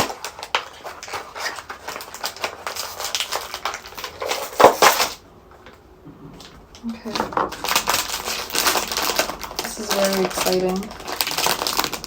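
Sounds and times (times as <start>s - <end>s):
packaging crinkling and tearing: 0.0s - 5.8s, 6.4s - 12.0s.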